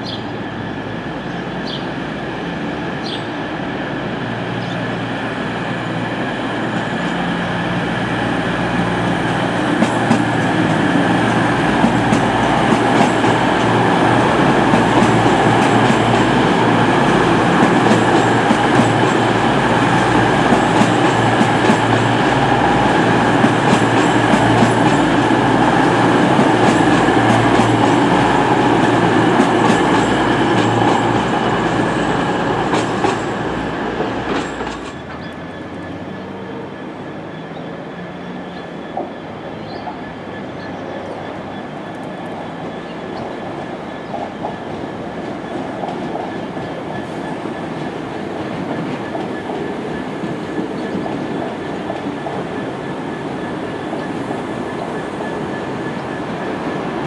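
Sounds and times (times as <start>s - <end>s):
diesel train engines running: 0.0s - 57.0s.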